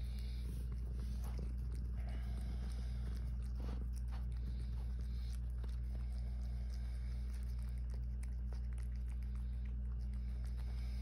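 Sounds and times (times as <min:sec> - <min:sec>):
cat licking and chewing: 0:00.0 - 0:11.0
low hum: 0:00.0 - 0:11.0.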